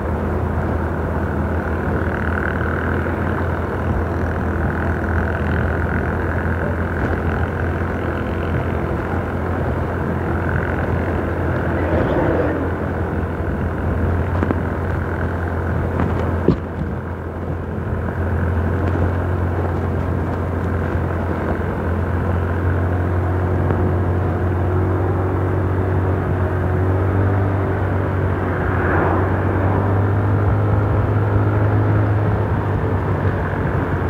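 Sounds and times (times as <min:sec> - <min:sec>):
road and wind rumble: 0:00.0 - 0:34.0
vehicle engine running: 0:00.0 - 0:34.0.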